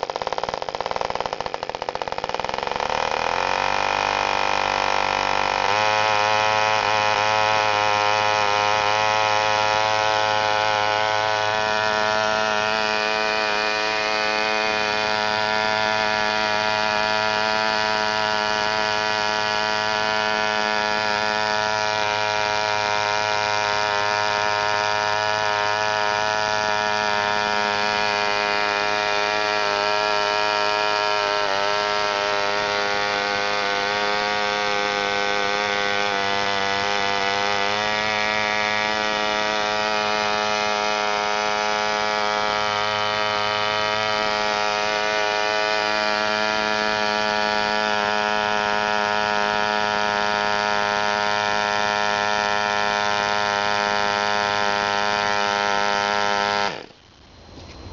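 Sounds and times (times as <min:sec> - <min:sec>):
model airplane engine buzzing: 0:00.0 - 0:57.9.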